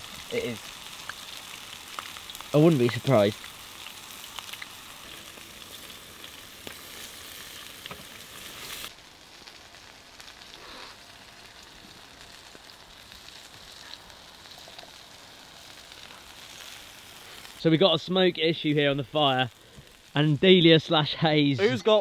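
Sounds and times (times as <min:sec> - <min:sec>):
oil crackles and pops: 0:00.0 - 0:22.0
onions deep-frying in hot oil: 0:00.0 - 0:22.0.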